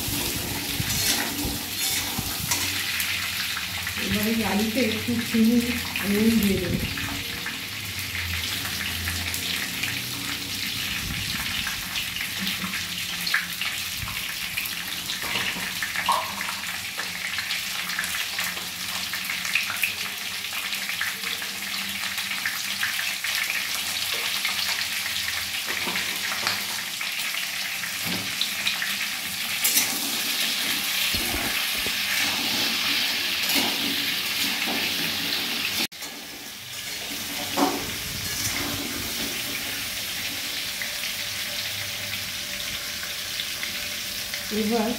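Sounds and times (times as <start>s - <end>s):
potatoes sizzling in hot oil: 0.0s - 44.9s.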